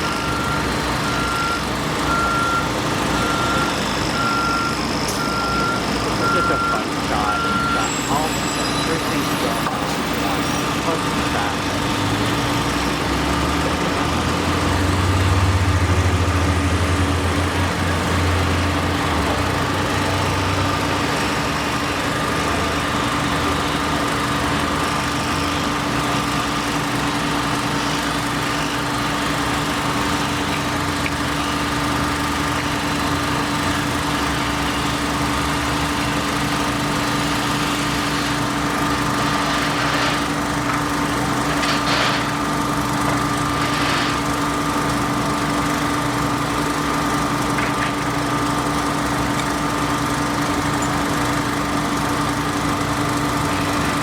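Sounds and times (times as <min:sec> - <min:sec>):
construction machinery engine running: 0:00.0 - 0:54.0.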